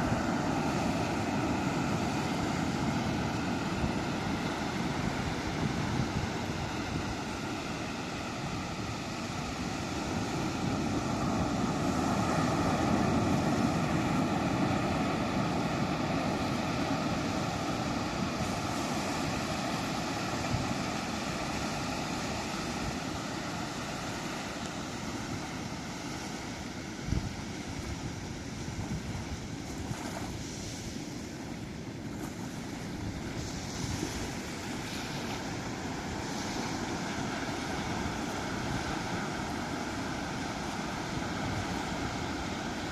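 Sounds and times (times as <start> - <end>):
sea waves breaking: 0.0 - 42.9.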